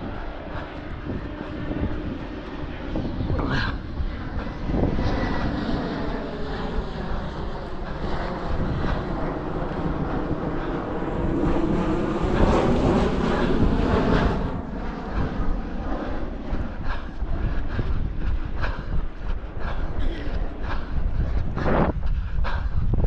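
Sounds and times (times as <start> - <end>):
airplane engine rumble overhead: 0.0 - 23.0.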